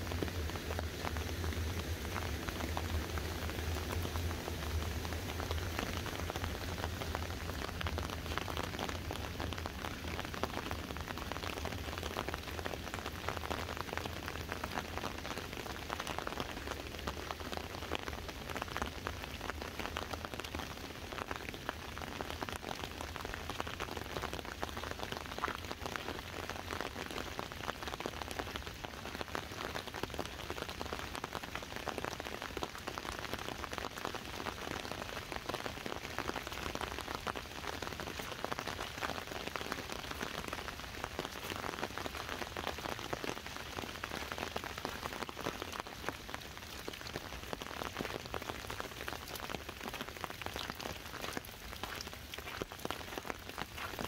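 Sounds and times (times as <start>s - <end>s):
rain pattering on an umbrella: 0.0s - 54.0s.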